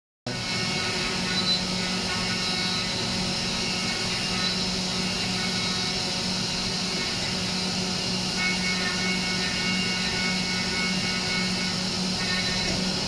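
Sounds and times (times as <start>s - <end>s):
milling machine hum and hiss: 0.3s - 13.0s
thin high whine: 0.3s - 13.0s.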